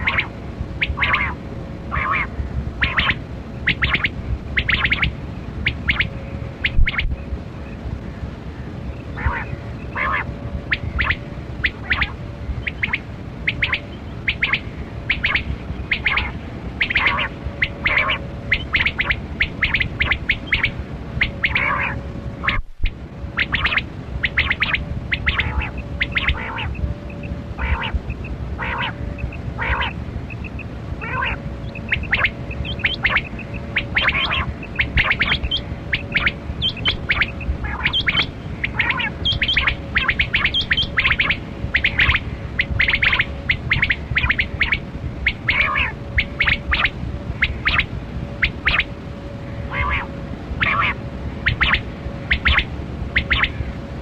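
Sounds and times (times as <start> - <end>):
quail calling: 0.0 - 7.2, 9.1 - 53.8
faint steady hum: 0.0 - 54.0.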